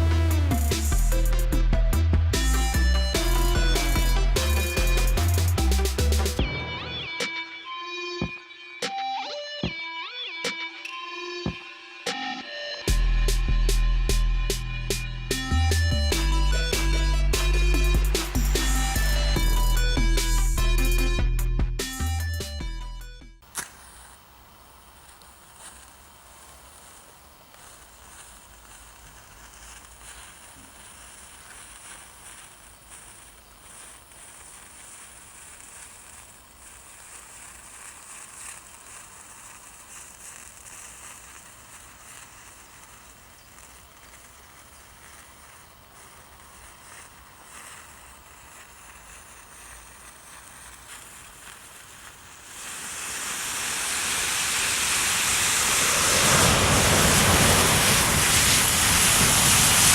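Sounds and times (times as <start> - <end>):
matches burning with crackling hiss: 0.0 - 22.4, 23.4 - 59.9.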